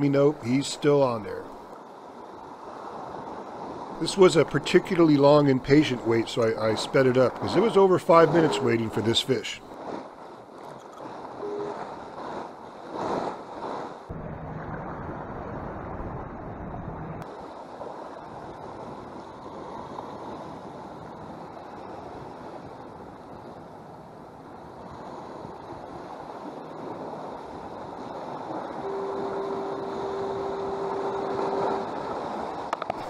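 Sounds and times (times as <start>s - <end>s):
surf washing against rocks: 0.0s - 16.2s, 17.2s - 23.8s, 24.5s - 33.0s
wind on microphone: 1.2s - 33.0s.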